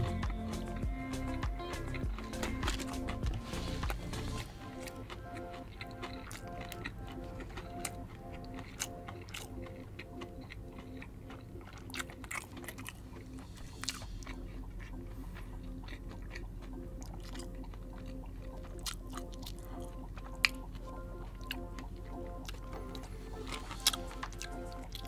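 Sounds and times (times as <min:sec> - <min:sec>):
person chewing crispy chicken: 0:00.0 - 0:25.0.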